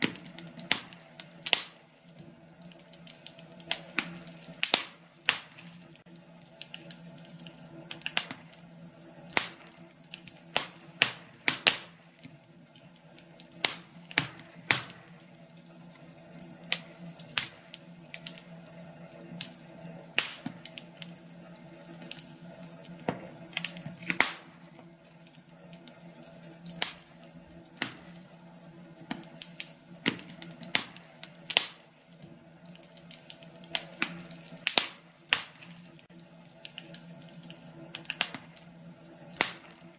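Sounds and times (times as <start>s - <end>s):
hiss of burning logs: 0.0s - 39.9s
wood fire crackling: 0.0s - 39.9s.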